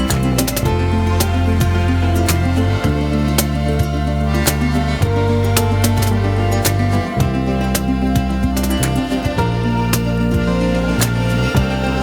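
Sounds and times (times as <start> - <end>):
steady percussive beat: 0.0 - 12.0
sustained instrumental notes: 0.0 - 12.0.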